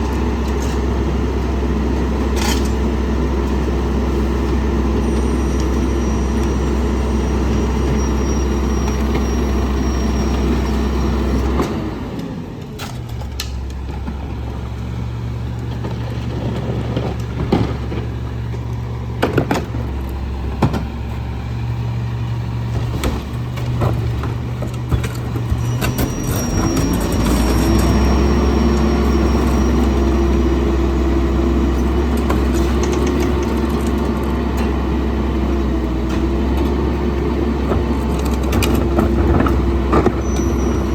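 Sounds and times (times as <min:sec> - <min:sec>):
diesel truck engine revving: 0:00.0 - 0:40.9.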